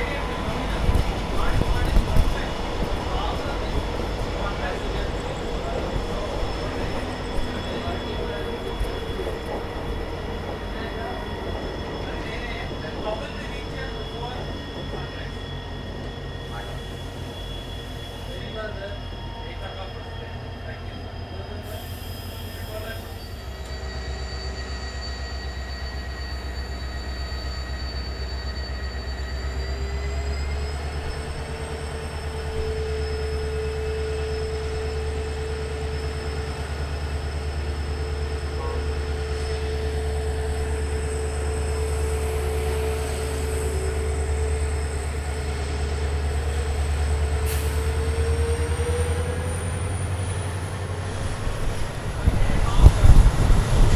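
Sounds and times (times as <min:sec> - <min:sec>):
train rumble and hum: 0:00.0 - 0:53.9.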